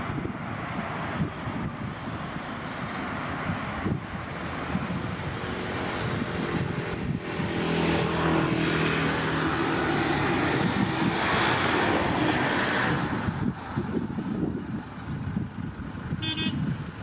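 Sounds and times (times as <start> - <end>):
jet engines running: 0.0 - 13.7
rushing roar: 0.0 - 13.8.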